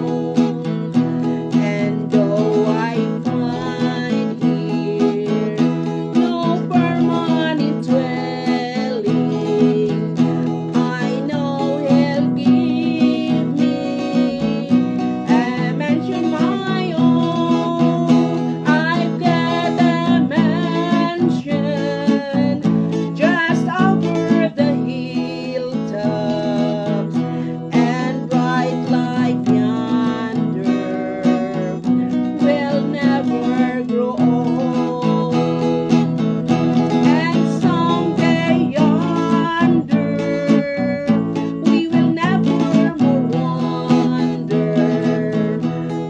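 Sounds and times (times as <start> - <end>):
person singing: 0.0 - 46.0
strummed acoustic guitar: 0.0 - 46.0.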